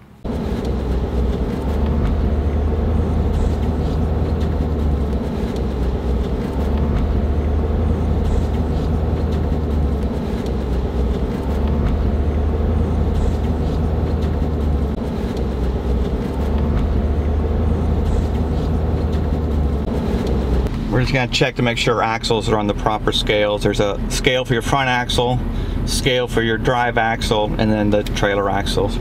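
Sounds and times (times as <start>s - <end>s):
vehicle engine drone: 0.0s - 29.0s.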